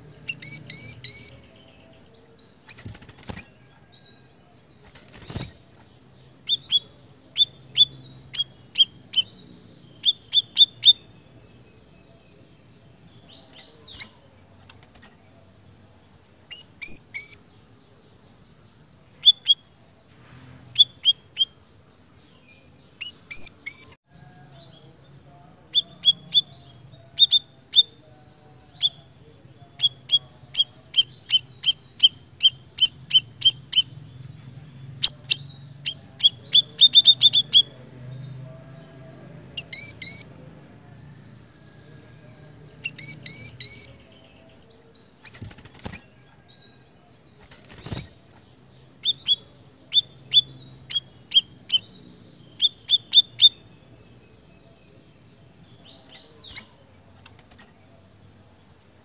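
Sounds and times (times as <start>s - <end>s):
bird singing sharp chirps: 0.0s - 15.2s, 16.5s - 17.7s, 18.3s - 38.8s, 39.5s - 58.4s.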